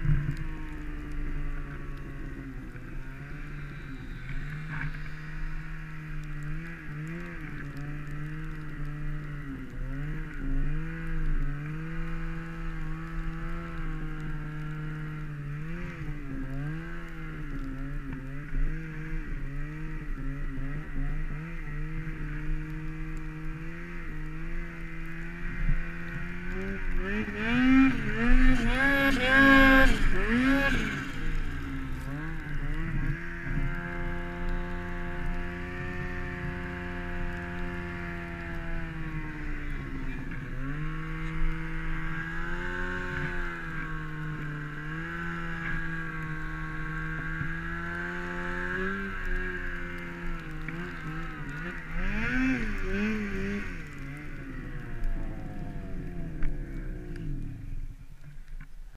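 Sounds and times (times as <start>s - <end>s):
snowmobile engine revving: 0.0s - 57.8s.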